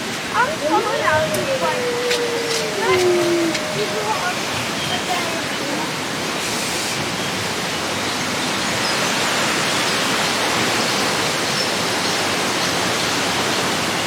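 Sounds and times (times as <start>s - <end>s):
rushing river rapids: 0.0s - 14.0s.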